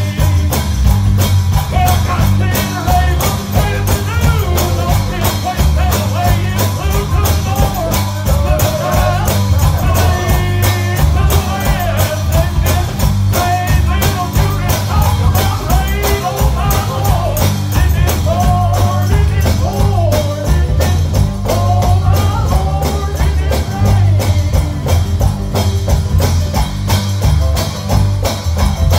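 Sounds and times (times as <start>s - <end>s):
gospel band playing upbeat song: 0.0s - 28.9s.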